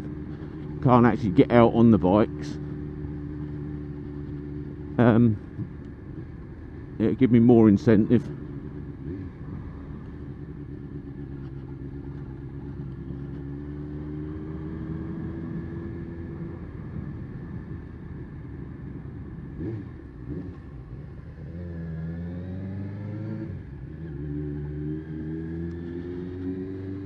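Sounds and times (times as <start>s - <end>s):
motorcycle engine and exhaust: 0.0s - 27.0s.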